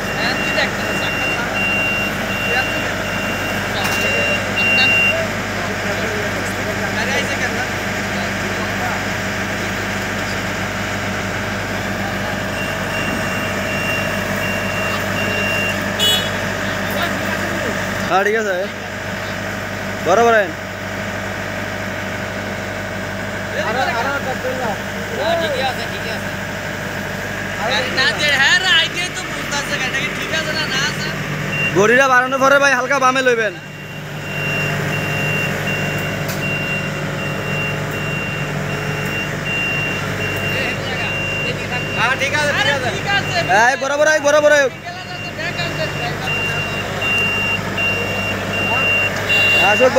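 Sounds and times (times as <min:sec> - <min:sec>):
high electronic warning beeps: 0:00.0 - 0:09.0, 0:09.8 - 0:18.9, 0:27.5 - 0:49.9
diesel engine idling: 0:00.0 - 0:49.9.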